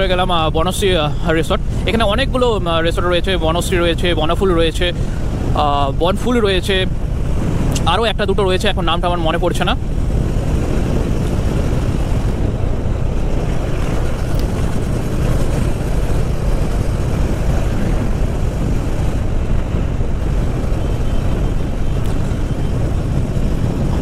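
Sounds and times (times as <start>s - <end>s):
motorcycle engine and road noise: 0.0s - 24.0s
wind rush: 0.0s - 24.0s.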